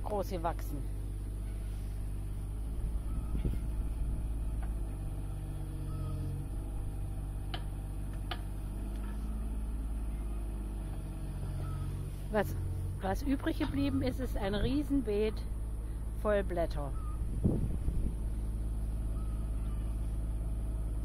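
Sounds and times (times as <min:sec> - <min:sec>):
mini excavator engine running: 0:00.0 - 0:21.0.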